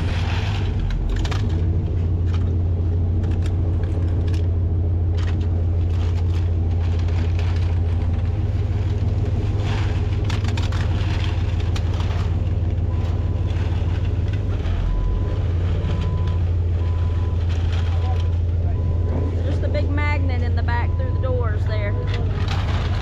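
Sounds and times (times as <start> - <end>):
clanks and rattles: 0.0 - 20.6, 21.9 - 23.0
vehicle engine running: 0.0 - 23.0.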